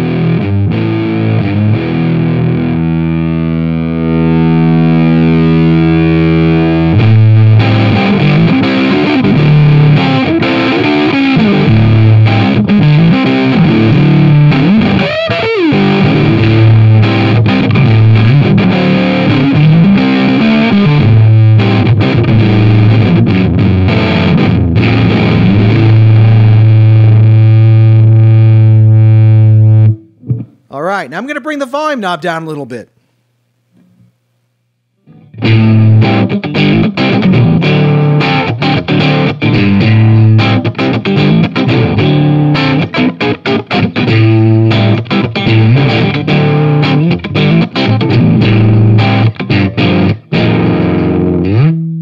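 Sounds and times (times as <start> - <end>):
fuzzed electric guitar riff: 0.0 - 32.8, 35.0 - 52.0.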